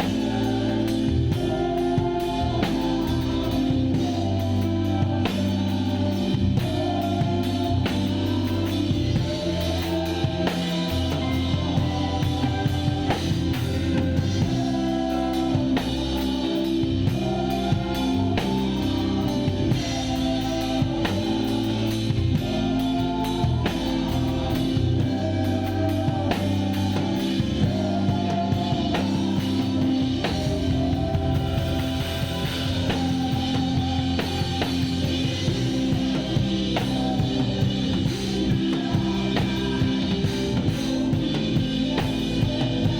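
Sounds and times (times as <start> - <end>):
drum kit beat: 0.0 - 42.9
guitar: 0.0 - 42.9
live band playing worship song: 0.0 - 42.9
person singing: 0.0 - 42.9.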